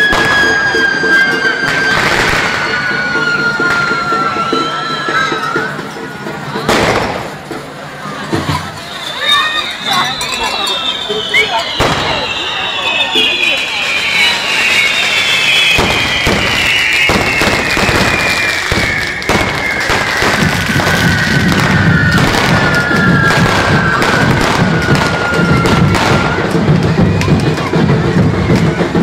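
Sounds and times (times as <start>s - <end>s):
falling firework whistle: 0.0s - 7.6s, 8.2s - 29.0s
music: 0.0s - 13.6s, 14.3s - 29.0s
fireworks crackling and banging: 0.0s - 29.0s.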